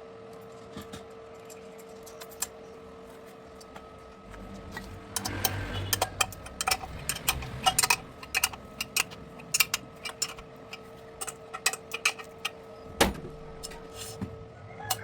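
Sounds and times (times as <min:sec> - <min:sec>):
metal tools clicking and tapping: 0:00.8 - 0:02.8, 0:03.6 - 0:14.3.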